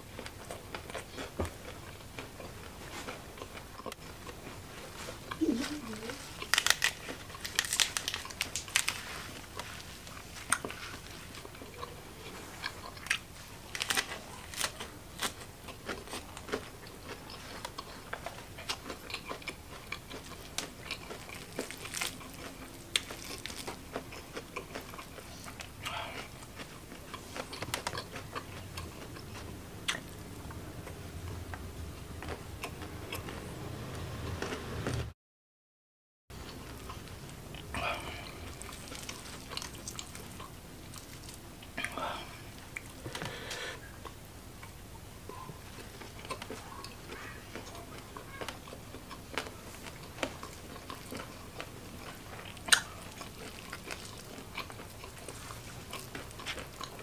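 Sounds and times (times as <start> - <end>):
wet chewing: 0.2 - 35.0, 36.4 - 42.0, 44.0 - 57.0.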